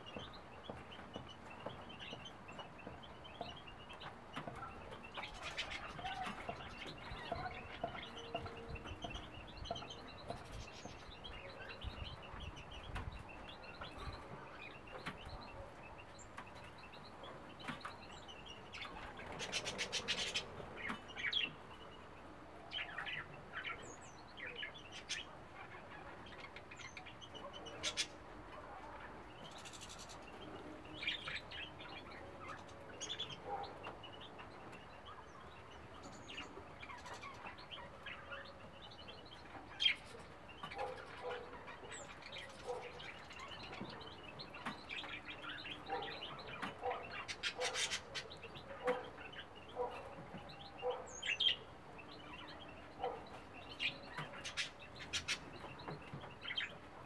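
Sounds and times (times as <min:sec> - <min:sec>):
faint steady background noise: 0:00.0 - 0:57.0
small songbirds chirping: 0:00.0 - 0:57.0.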